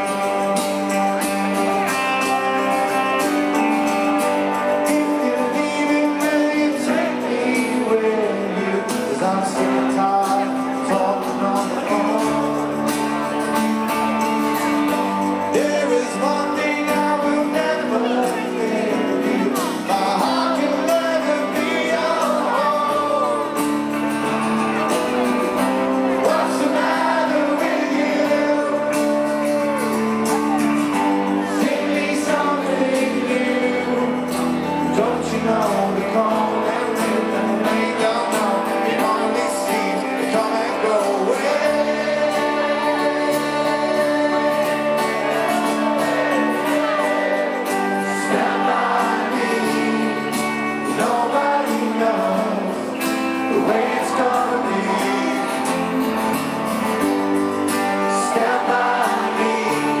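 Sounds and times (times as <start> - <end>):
guitars: 0.0 - 60.0
live rock band playing: 0.0 - 60.0
person singing: 0.0 - 60.0.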